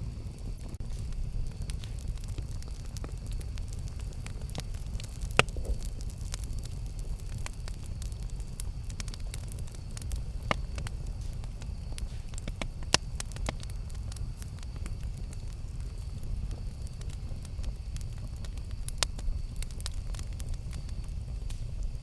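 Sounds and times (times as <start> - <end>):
campfire crackling and popping: 0.0 - 22.0
steady low rumble: 0.0 - 22.0.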